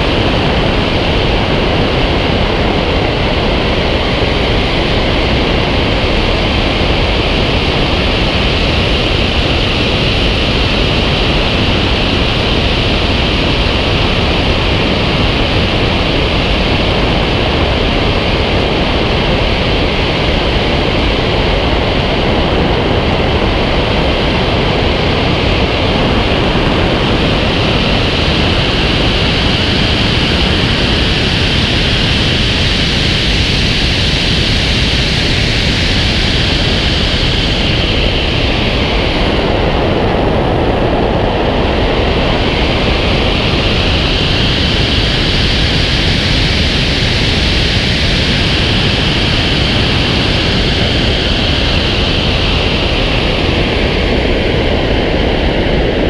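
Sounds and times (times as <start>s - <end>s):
wind rushing over camera: 0.0s - 56.0s.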